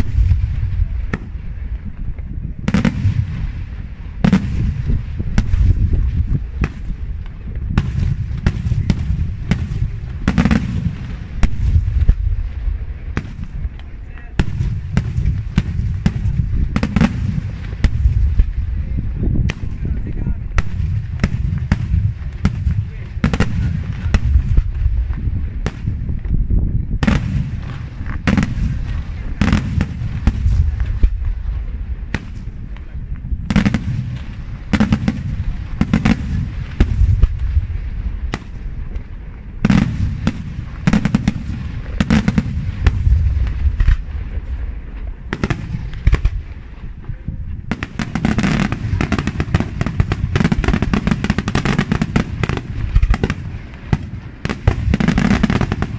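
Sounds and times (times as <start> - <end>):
fireworks bangs: 0.0 - 55.9
low rumbling echo: 0.0 - 55.9.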